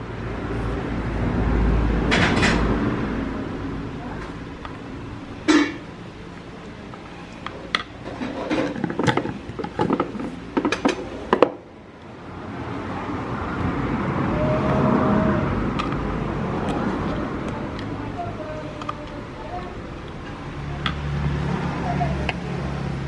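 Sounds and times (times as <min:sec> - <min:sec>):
broad rush of noise: 0:00.0 - 0:23.0.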